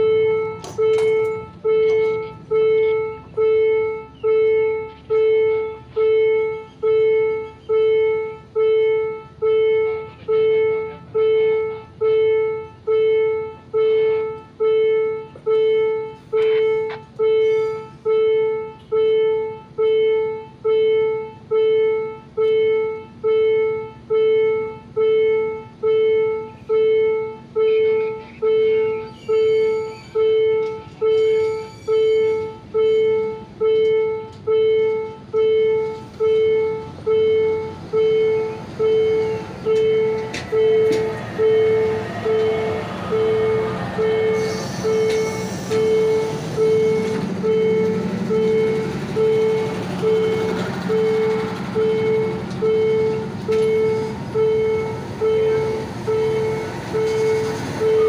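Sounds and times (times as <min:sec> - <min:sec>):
level crossing warning bell: 0:00.0 - 0:58.0.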